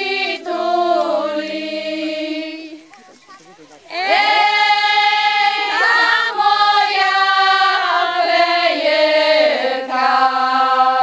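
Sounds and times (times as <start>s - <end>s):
group of voices singing in harmony: 0.0s - 3.0s, 3.9s - 11.0s.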